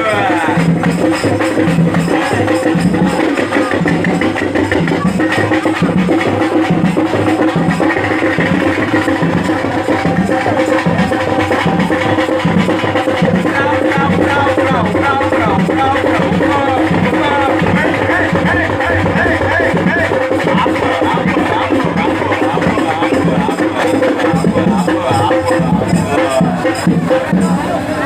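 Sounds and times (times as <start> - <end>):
steady drum beat: 0.0 - 28.0.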